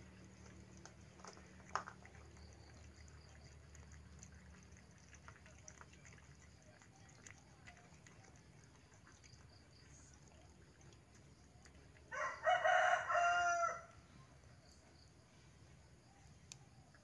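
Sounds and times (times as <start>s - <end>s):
cats chewing and lapping: 0.0s - 14.0s
faint low hum: 0.0s - 17.0s.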